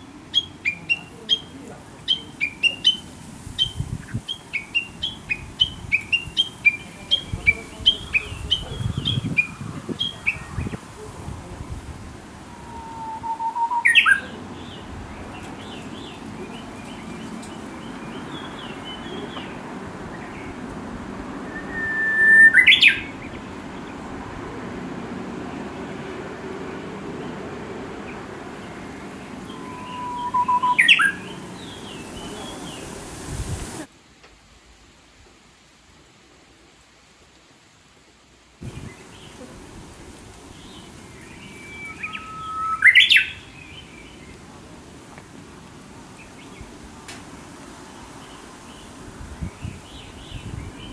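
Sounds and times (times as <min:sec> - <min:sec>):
bush warbler song: 0:00.0 - 0:33.9, 0:38.6 - 0:50.9.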